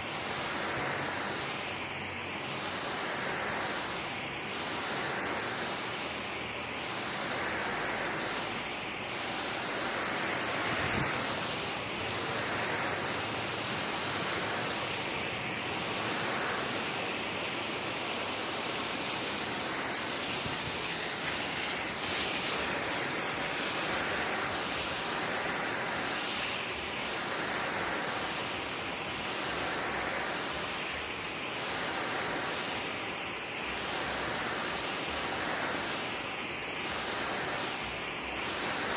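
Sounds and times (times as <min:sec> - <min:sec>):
water spraying onto lawn: 0:00.0 - 0:38.9.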